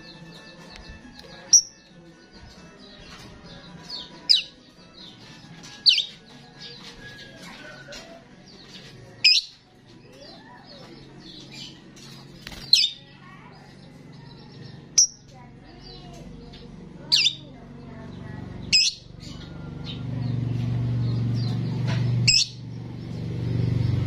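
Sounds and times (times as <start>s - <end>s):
starling chattering and warbling: 2.4s - 22.8s.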